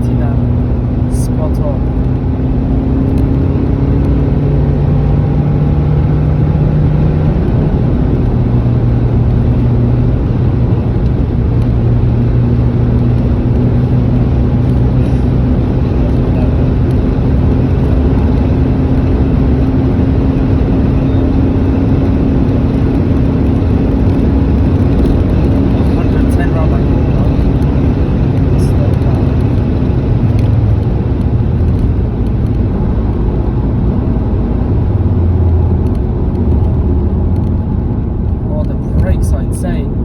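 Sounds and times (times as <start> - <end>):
car engine hum: 0.0 - 40.0
road and tyre noise: 0.0 - 40.0.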